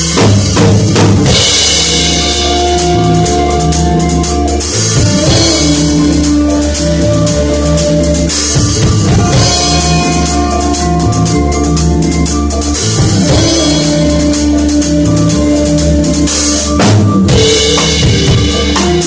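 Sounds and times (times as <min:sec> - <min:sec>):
drum kit groove: 0:00.0 - 0:19.0
music with bass line: 0:00.0 - 0:19.0.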